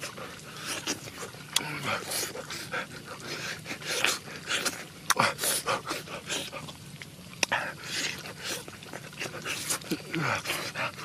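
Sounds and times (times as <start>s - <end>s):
chewing: 0.0s - 11.0s
lip-smacking: 0.0s - 11.0s.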